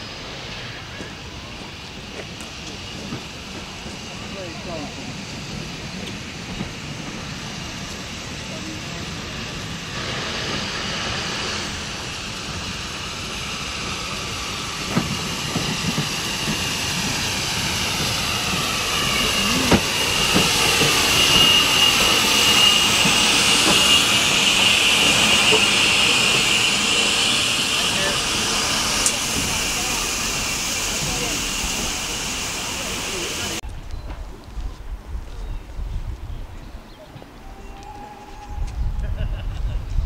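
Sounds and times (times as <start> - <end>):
high steady squeal: 0.0 - 33.6
steam hissing: 0.0 - 33.6
steam locomotive running: 0.0 - 35.4, 37.0 - 40.0.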